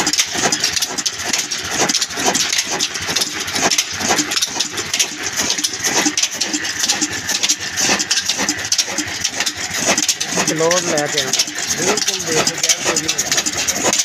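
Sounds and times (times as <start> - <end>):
diesel engine knocking: 0.0 - 14.0
mechanical clatter: 0.0 - 14.0.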